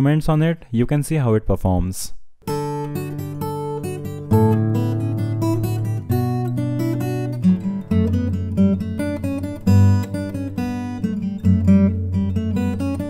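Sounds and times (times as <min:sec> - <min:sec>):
acoustic guitar strumming chords: 0:02.4 - 0:13.0.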